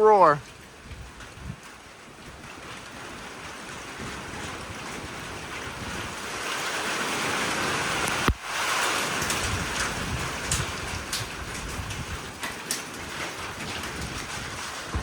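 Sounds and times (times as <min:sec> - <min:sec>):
wind-driven heavy rain: 0:00.0 - 0:15.0.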